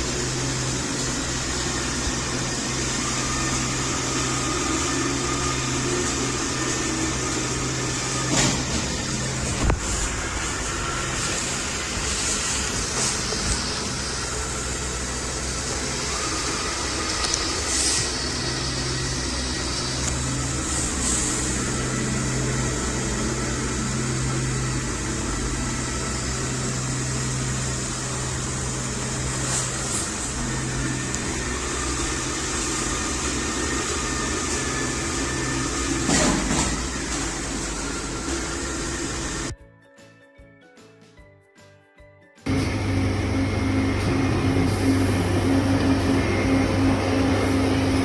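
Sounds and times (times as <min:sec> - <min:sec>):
robot vacuum humming: 0:00.0 - 0:39.6, 0:42.5 - 0:48.0.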